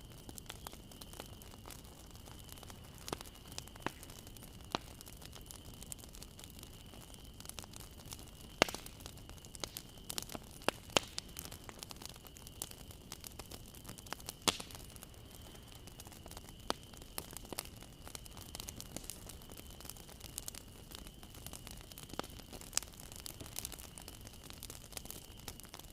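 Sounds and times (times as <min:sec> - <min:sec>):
bonfire crackling and popping: 0:00.0 - 0:25.9.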